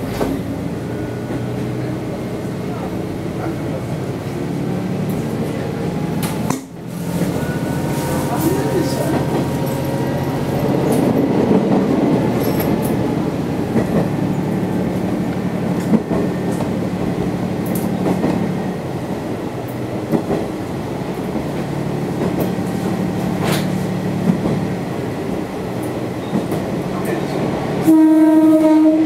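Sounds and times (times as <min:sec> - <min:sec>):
train engine hum and rumble: 0:00.0 - 0:29.0.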